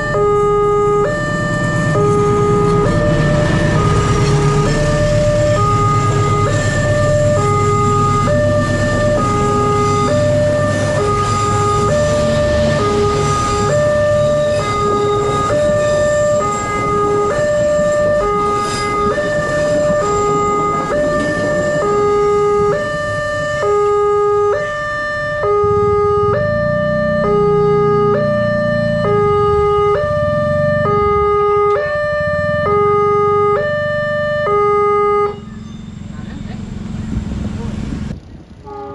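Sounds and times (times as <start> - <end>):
train rumbling past: 0.0 - 31.4, 35.2 - 38.9
level crossing two-tone alarm: 0.0 - 37.0.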